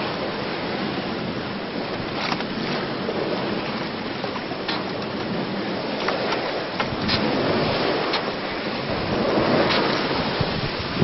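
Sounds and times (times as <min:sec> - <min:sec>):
water rushing along hull: 0:00.0 - 0:11.0
water splashes: 0:00.0 - 0:11.0
wind on microphone: 0:00.0 - 0:11.0.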